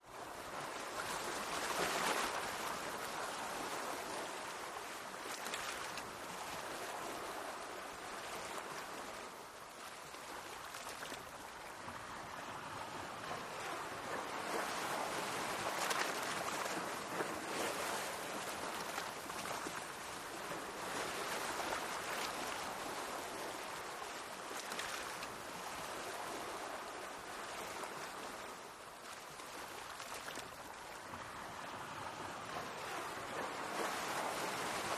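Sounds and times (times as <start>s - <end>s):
sea waves washing in: 0.0s - 34.9s.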